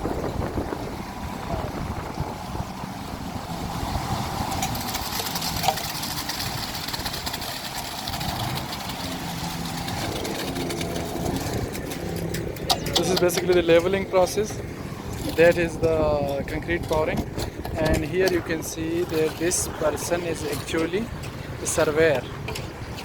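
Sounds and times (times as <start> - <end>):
machinery engine rumbling: 0.0 - 23.0.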